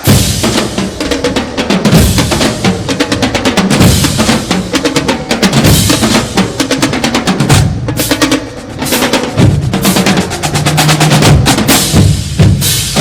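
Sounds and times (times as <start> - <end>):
fast drum hits and rolls: 0.0 - 13.0.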